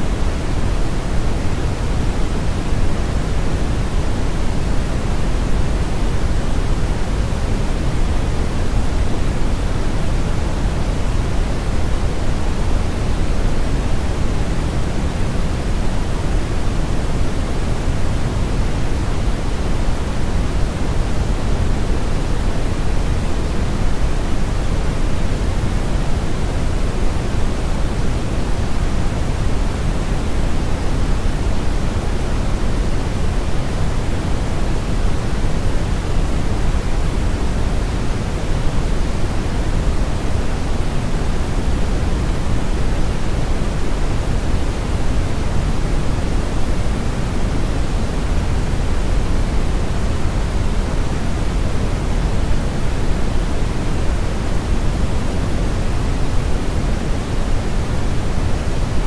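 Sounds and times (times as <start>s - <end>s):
brown noise hiss: 0.0s - 59.0s.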